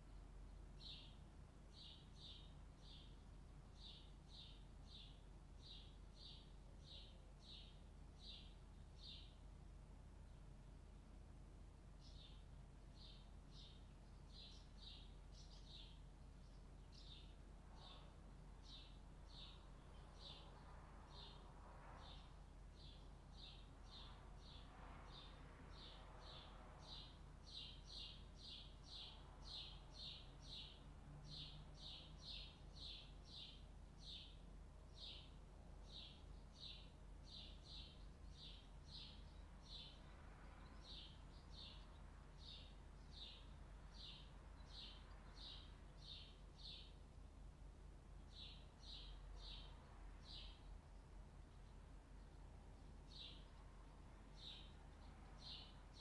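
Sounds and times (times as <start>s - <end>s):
small bird chirping: 0.0s - 9.5s, 12.0s - 47.3s, 48.0s - 56.0s
faint low hum: 0.0s - 56.0s.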